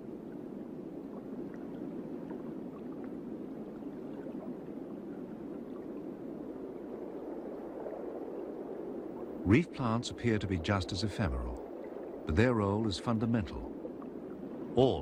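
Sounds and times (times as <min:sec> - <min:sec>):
underwater water wash: 0:00.0 - 0:15.0.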